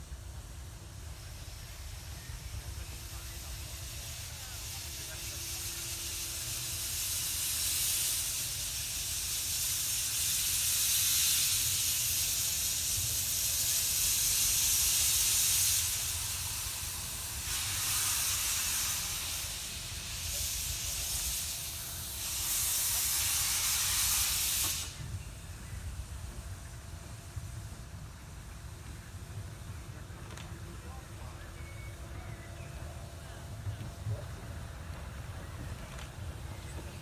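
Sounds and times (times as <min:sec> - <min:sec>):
steam hissing from locomotive: 0:00.0 - 0:37.0.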